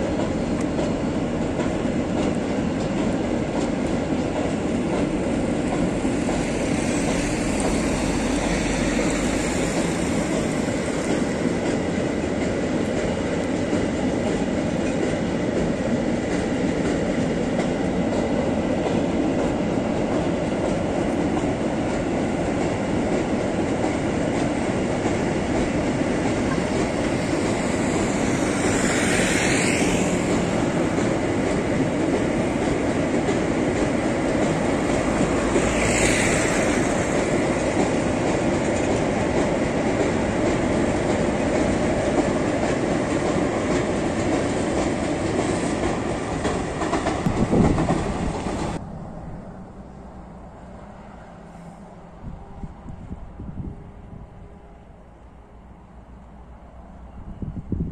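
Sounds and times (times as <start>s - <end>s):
wheels clickety-clack: 0.0s - 48.8s
freight train rumble: 0.0s - 57.9s.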